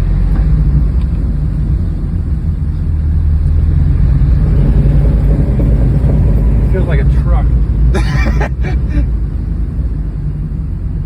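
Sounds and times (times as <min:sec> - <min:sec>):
car engine rumbling in cabin: 0:00.0 - 0:11.0.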